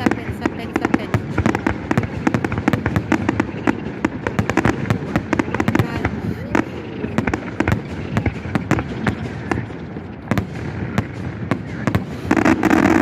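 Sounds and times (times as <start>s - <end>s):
firework shells bursting: 0.0s - 13.0s
fireworks crackling: 0.0s - 13.0s.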